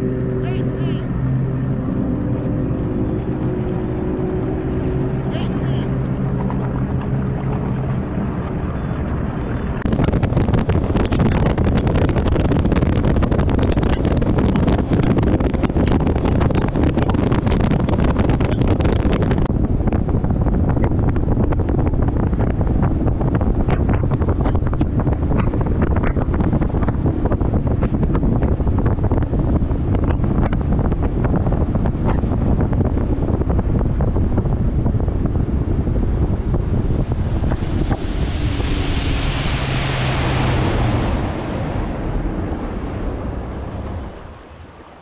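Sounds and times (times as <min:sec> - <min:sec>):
water rushing: 0:00.0 - 0:20.2, 0:21.9 - 0:45.0
outboard motor: 0:00.0 - 0:45.0
wind buffeting microphone: 0:00.0 - 0:45.0.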